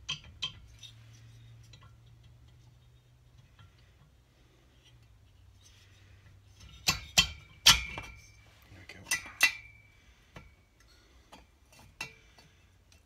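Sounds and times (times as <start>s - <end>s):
metal clinking and knocking: 0.0s - 13.0s.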